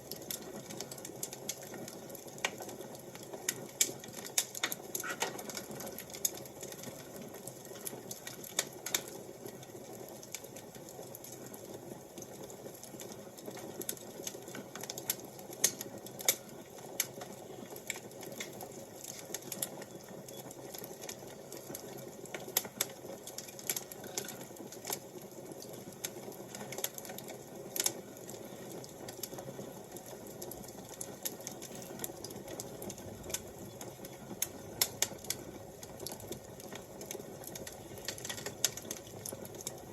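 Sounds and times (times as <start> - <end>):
wood fire pops and snaps: 0.0 - 39.9.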